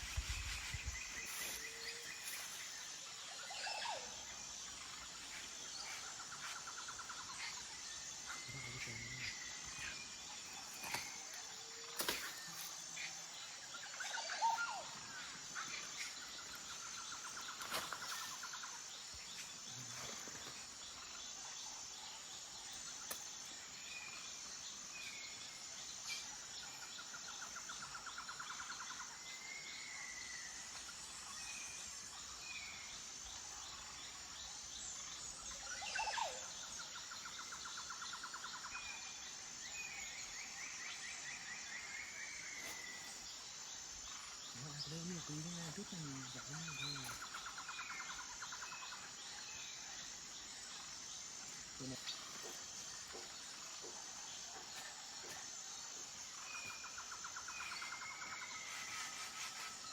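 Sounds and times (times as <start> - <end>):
insects chorus pulsing: 0.0 - 59.9.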